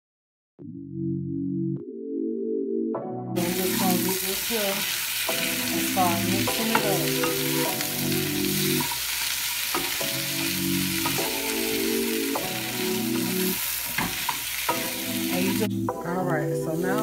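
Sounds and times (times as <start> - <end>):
potatoes and onions sizzling: 3.4 - 17.0.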